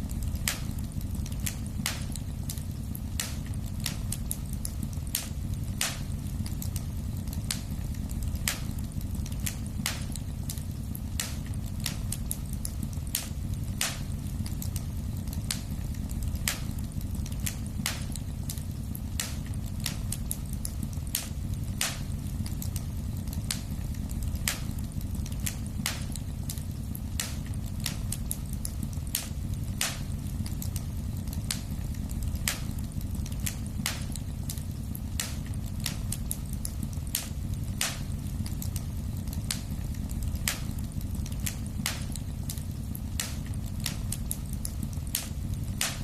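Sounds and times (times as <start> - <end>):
fire crackling and popping: 0.0 - 46.0
low rumble of burning: 0.0 - 46.0.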